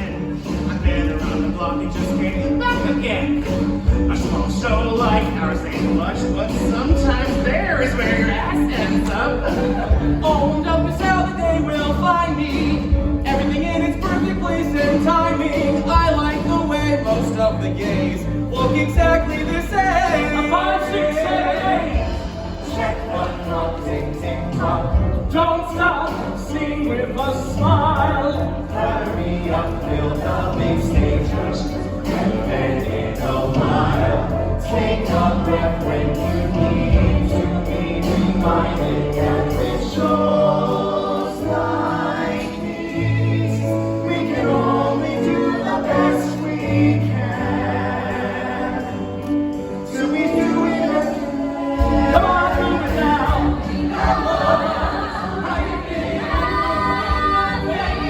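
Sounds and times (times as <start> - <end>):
ensemble singing over band: 0.0 - 58.0.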